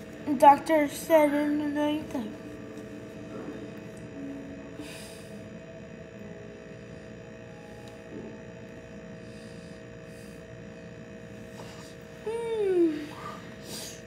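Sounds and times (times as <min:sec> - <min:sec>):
steady hum of held tones: 0:00.0 - 0:14.0.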